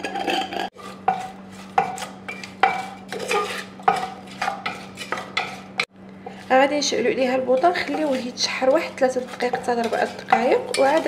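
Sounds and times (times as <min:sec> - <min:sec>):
steady low hum: 0:00.0 - 0:11.0
wooden spoon scraping metal pot: 0:00.0 - 0:11.0.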